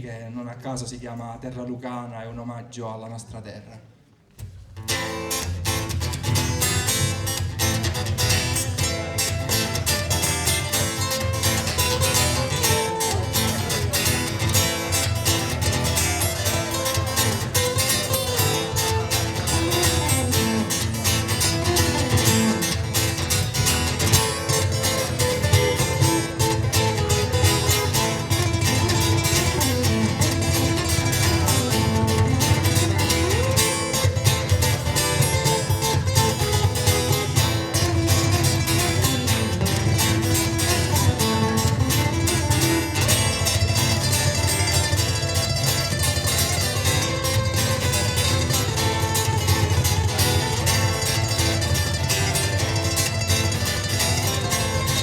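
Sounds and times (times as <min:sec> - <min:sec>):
ukulele strummed and picked: 0:04.4 - 0:55.0
steady bass: 0:05.5 - 0:55.0.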